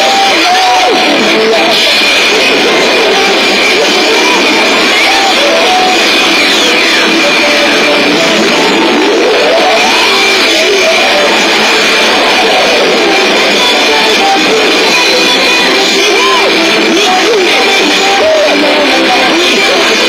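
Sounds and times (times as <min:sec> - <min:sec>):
rock music with electric guitar: 0:00.0 - 0:20.0
sliding electronic sound effects: 0:00.0 - 0:20.0.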